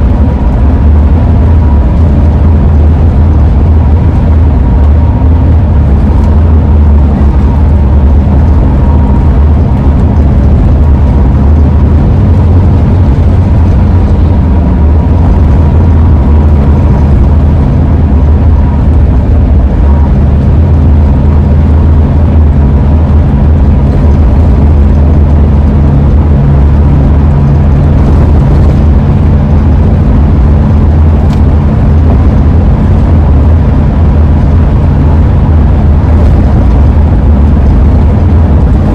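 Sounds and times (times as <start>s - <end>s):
van road and engine rumble: 0.0s - 38.9s.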